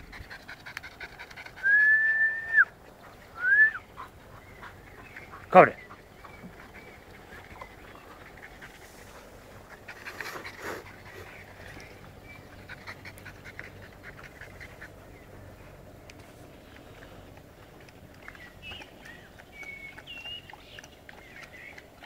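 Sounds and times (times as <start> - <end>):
dog panting: 0.0 - 1.8, 2.6 - 22.0.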